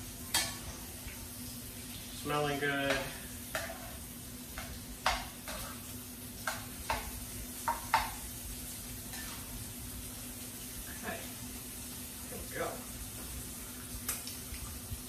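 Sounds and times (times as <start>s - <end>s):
meat sizzling in a skillet: 0.0s - 15.0s.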